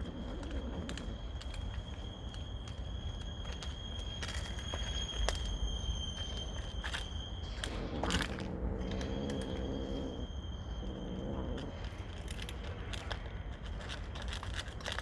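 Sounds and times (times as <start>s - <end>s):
cats chewing and crunching food: 0.0s - 15.0s.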